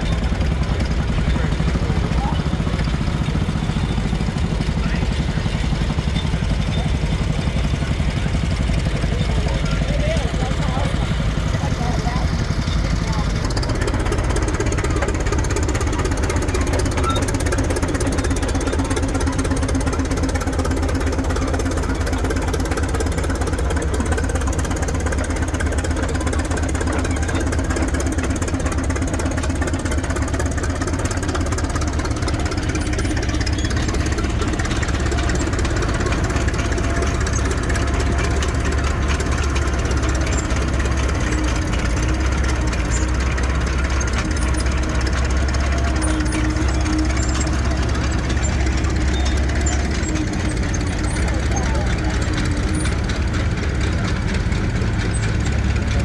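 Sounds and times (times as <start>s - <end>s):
engine running at low speed: 0.0s - 56.0s.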